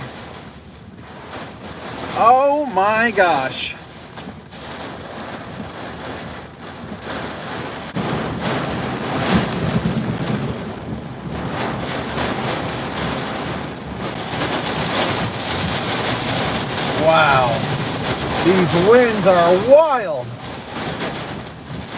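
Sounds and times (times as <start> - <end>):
wind gusting on microphone: 0.0 - 21.9.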